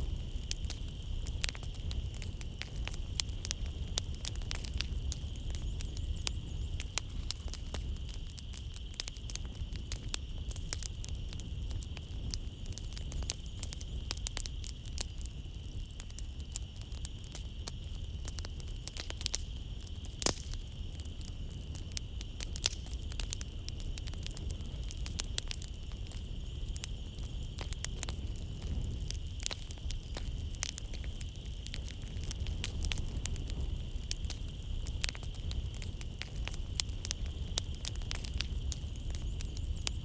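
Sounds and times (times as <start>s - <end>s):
night insects chirping: 0.0s - 40.0s
wood fire crackling: 0.0s - 40.0s.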